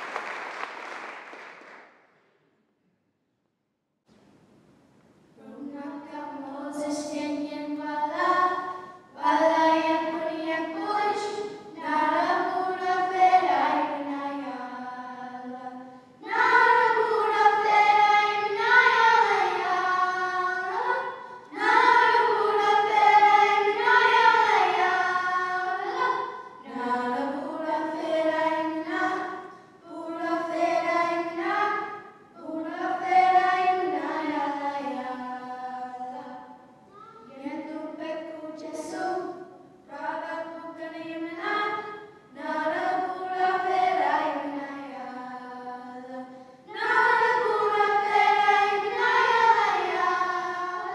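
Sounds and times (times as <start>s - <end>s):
young women singing together: 5.4s - 36.7s, 37.3s - 50.9s.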